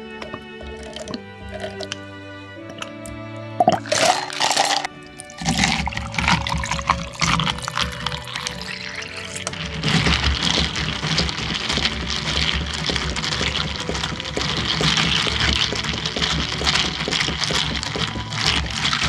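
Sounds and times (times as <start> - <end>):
milk pouring over ice: 0.3 - 2.0, 3.6 - 19.0
ice rattling in plastic cup: 3.6 - 19.0.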